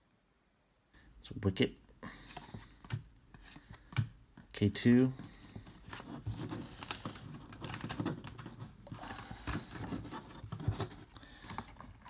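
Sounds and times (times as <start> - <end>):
trading cards tapping and rustling: 2.1 - 12.0.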